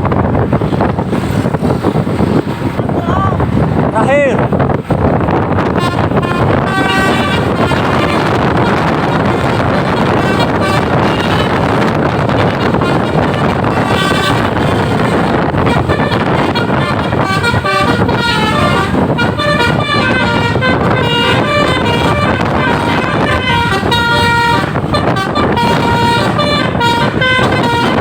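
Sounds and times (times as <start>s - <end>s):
bus engine running: 0.0s - 28.0s
multi-tone musical bus horn: 5.1s - 28.0s.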